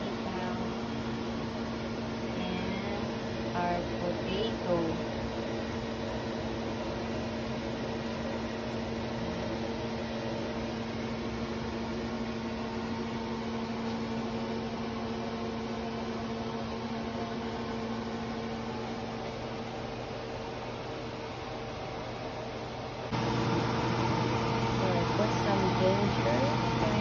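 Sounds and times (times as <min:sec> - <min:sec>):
fan motor humming: 0:00.0 - 0:27.0.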